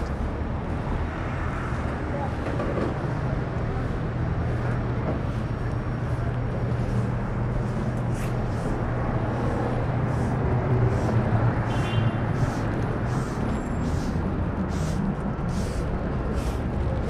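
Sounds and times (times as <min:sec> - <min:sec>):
traffic rumble and hiss: 0:00.0 - 0:17.0.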